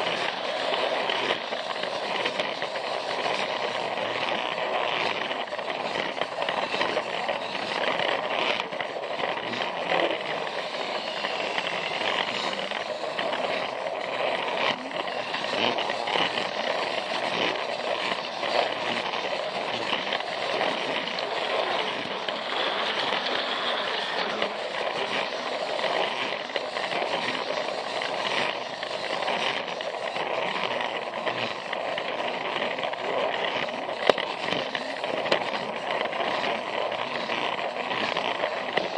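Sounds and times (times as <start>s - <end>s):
toy train rattling on plastic track: 0.0s - 38.9s.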